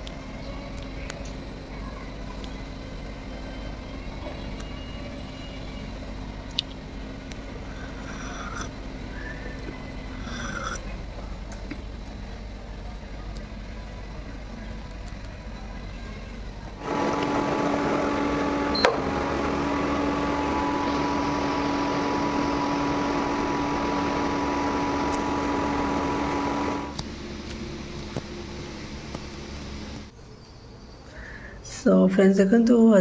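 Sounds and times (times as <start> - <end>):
low background rumble: 0.0 - 30.1
cooktop electrical hum with fan: 0.0 - 33.0.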